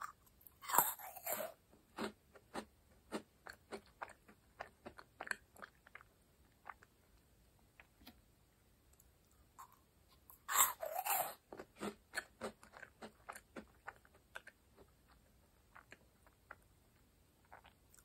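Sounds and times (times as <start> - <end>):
cookie crunching and chewing: 0.0 - 8.2, 8.9 - 18.0.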